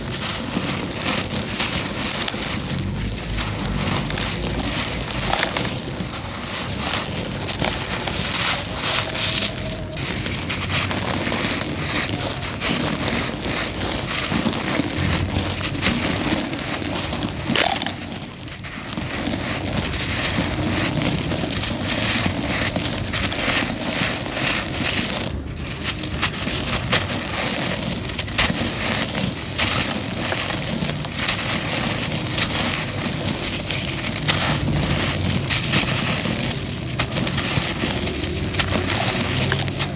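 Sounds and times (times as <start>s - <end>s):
cement crunching: 0.0s - 39.9s.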